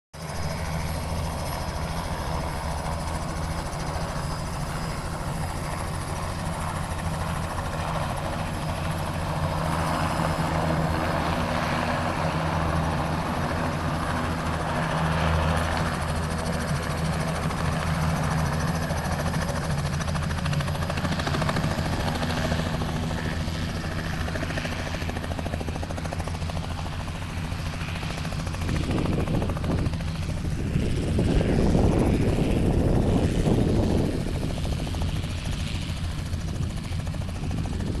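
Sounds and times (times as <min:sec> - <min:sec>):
helicopter rotor and engine drone: 0:00.2 - 0:38.0.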